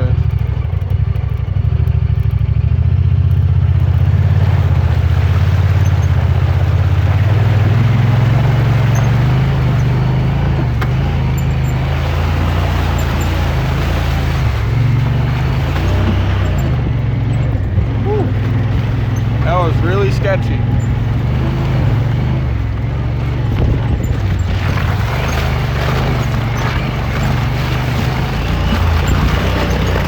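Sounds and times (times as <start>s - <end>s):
vehicle engine under load: 0.0s - 30.0s
water splashing: 3.6s - 30.0s.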